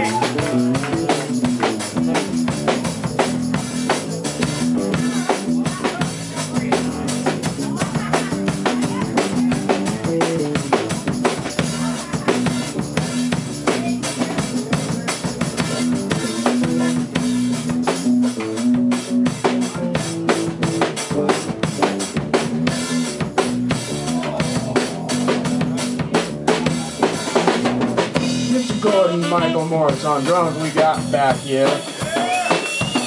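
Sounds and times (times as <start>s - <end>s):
drum kit beat: 0.0s - 33.0s
electric bass line: 0.0s - 33.0s.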